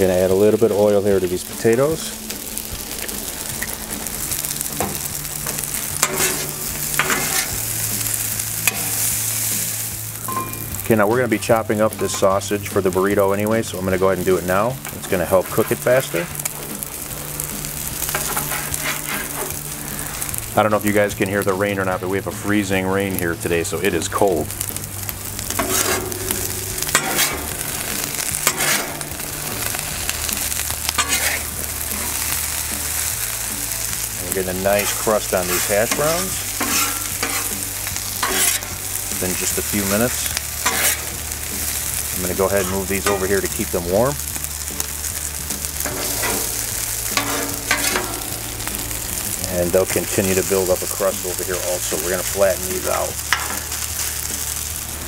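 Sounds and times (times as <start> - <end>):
hash browns sizzling on griddle: 0.0 - 55.0
metal spatula scraping griddle: 2.8 - 9.8, 11.8 - 22.8, 23.9 - 44.2, 45.6 - 54.6.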